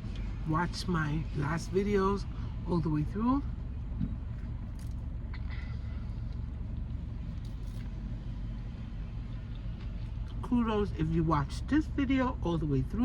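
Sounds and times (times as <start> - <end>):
car engine hum from inside: 0.0 - 13.0.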